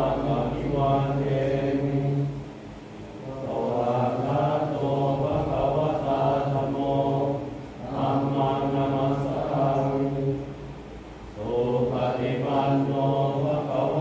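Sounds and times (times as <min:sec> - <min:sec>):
men chanting in unison: 0:00.0 - 0:02.4, 0:03.2 - 0:10.6, 0:11.4 - 0:14.0.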